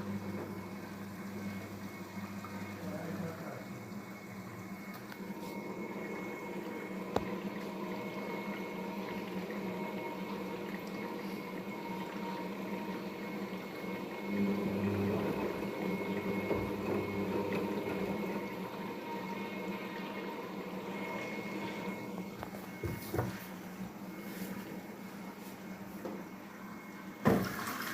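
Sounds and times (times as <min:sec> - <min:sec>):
washing machine hum: 0:00.0 - 0:27.9
water running in: 0:00.0 - 0:27.9.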